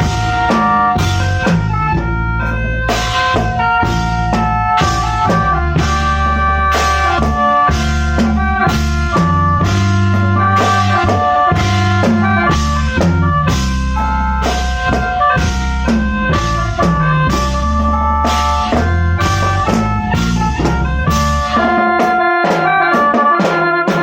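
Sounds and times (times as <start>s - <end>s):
heavy bass: 0.0s - 22.8s
drum kit steady beat: 0.0s - 24.0s
mouth organ droning chords: 0.0s - 24.0s.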